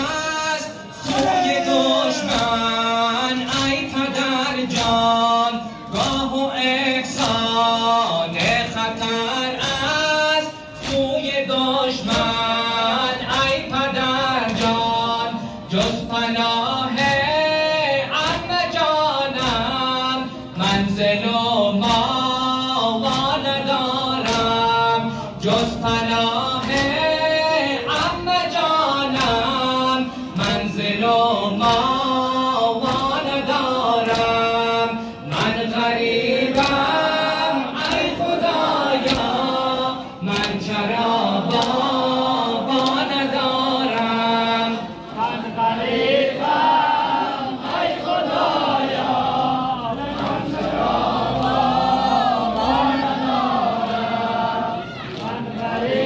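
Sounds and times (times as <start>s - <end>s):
man singing lament through loudspeakers: 0.0s - 47.4s.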